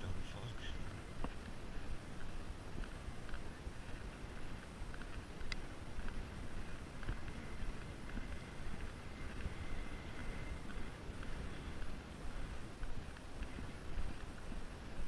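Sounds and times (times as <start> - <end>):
faint scattered ticks: 0.0 - 15.0
wind buffeting microphone: 0.0 - 15.0.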